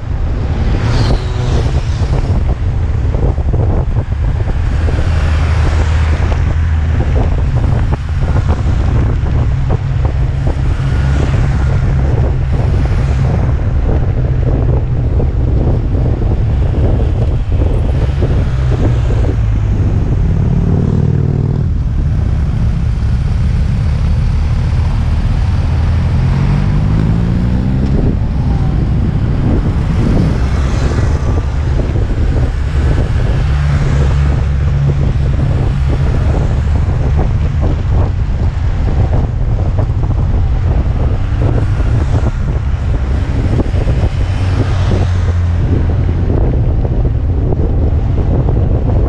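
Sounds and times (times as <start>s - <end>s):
motorcycle engines: 0.0s - 49.0s
wind rush on microphone: 0.0s - 49.0s.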